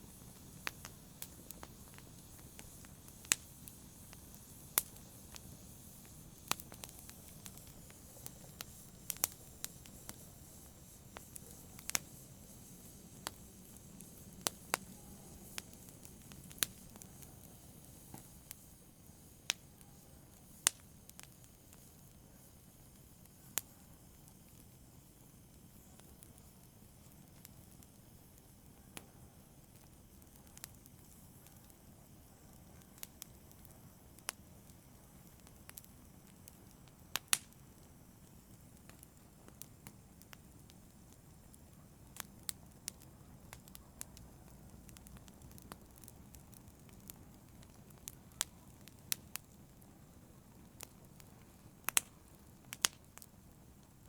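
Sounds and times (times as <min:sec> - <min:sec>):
faint low hiss: 0:00.0 - 0:54.0
small fire crackling: 0:00.0 - 0:54.0.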